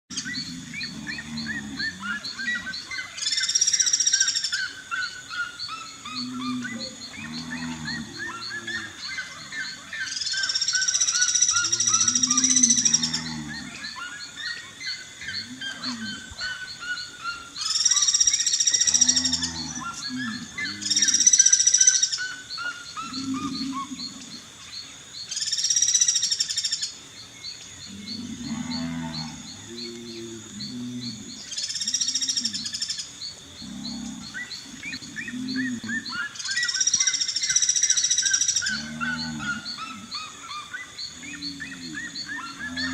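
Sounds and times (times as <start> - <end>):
low pulsing hoots: 0.1 - 3.2, 4.5 - 24.5, 27.8 - 42.9
harsh loud bird calls: 0.1 - 42.9
high insect drone: 0.1 - 42.9.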